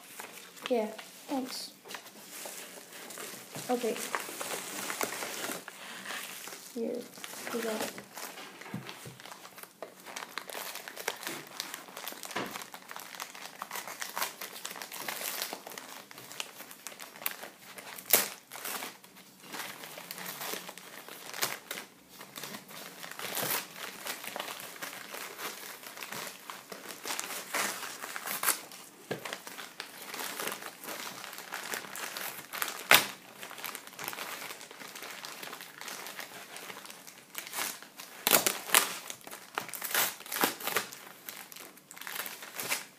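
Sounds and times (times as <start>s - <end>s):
paper wrapping tearing and crinkling: 0.0s - 42.9s.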